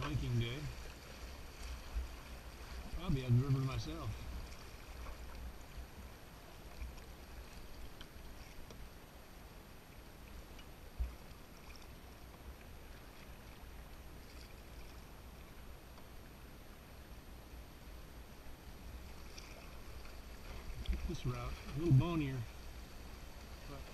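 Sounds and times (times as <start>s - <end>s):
shallow river water rushing: 0.0s - 23.9s.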